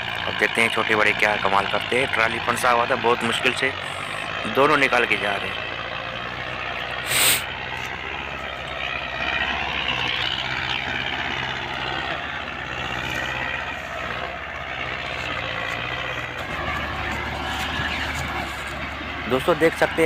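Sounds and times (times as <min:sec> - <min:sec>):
tractor diesel engines under load: 0:00.0 - 0:20.0.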